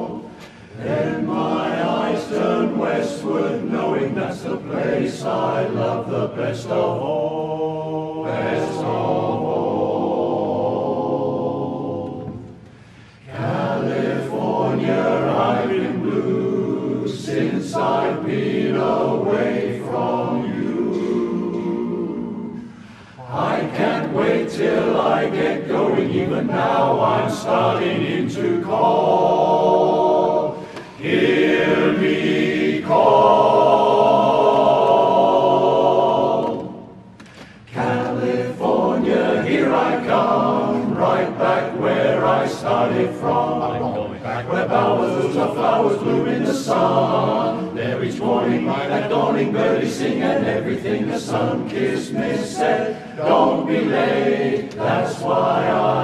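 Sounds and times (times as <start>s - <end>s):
men's chorus singing a cappella: 0.0s - 56.0s.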